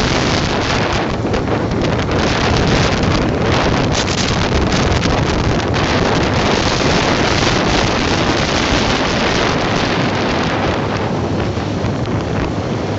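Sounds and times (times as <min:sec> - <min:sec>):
road noise: 0:00.0 - 0:12.9
wind rushing over microphone: 0:00.0 - 0:12.9.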